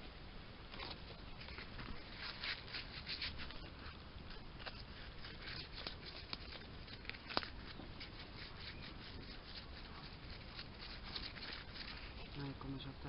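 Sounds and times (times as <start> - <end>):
leaves rubbing on bamboo cane: 0.7 - 13.0.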